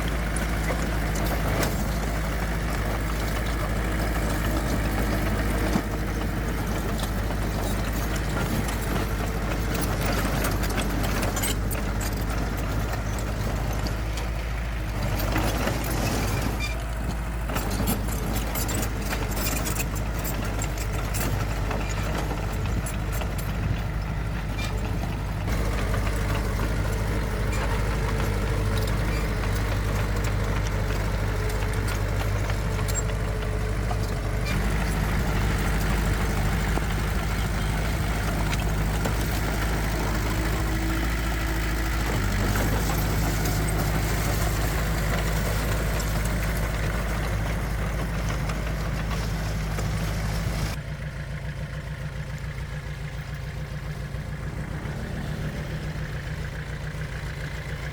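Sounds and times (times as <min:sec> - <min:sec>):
clicks and rattles: 0:00.0 - 0:50.8
diesel engine droning: 0:00.0 - 0:57.9.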